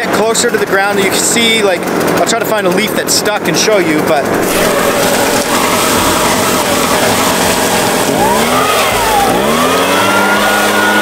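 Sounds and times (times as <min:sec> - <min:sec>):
leaf blower engine running: 0:00.0 - 0:11.0.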